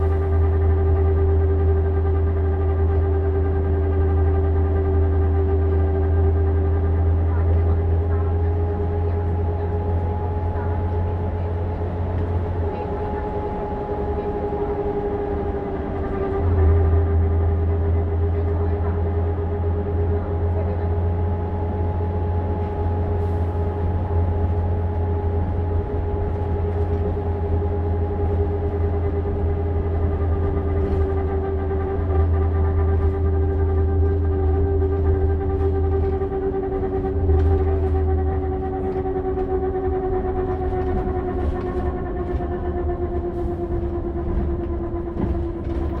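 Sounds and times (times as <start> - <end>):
steady whine: 0.0 - 46.0
vehicle engine drone: 0.0 - 46.0.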